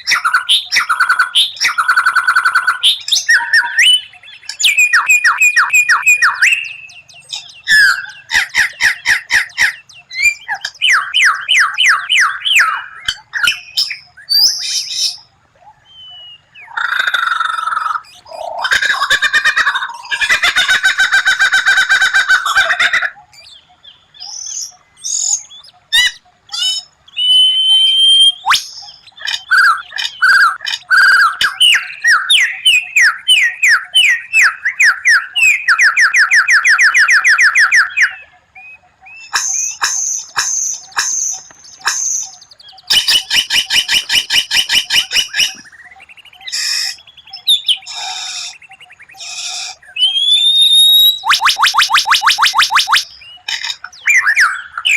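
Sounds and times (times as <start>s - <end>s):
songbird singing trills: 0.0s - 54.9s.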